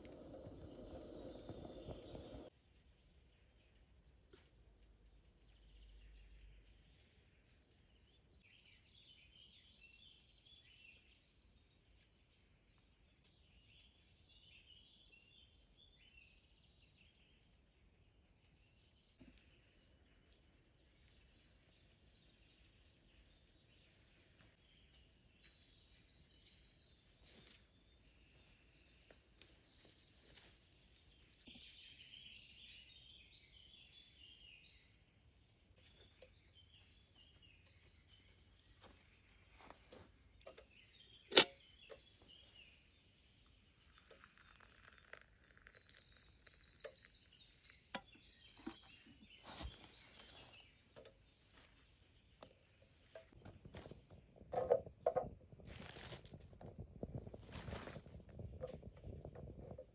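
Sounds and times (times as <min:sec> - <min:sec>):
songbird chirps and trills: 0:00.0 - 0:59.9.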